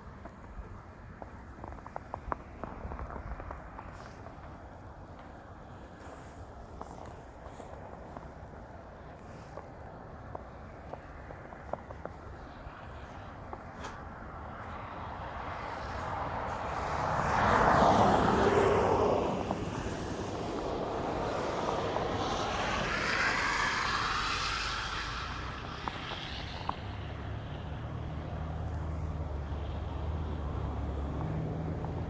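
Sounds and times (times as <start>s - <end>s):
vehicles passing: 2.4s - 32.0s.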